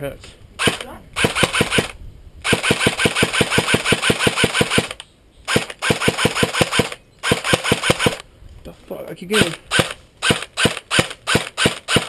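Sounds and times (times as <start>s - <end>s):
airsoft gun firing full auto: 0.6s - 8.2s, 9.4s - 12.0s.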